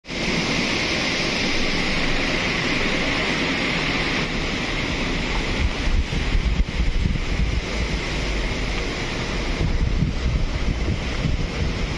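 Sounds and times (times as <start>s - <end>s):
rushing river water: 0.0s - 11.9s
wind buffeting microphone: 0.1s - 11.9s.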